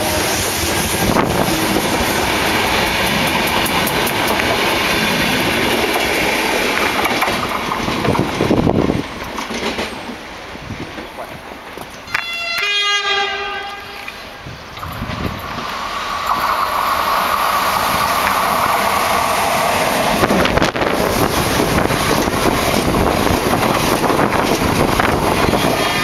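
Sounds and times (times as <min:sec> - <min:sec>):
train passing close by: 0:00.0 - 0:26.0.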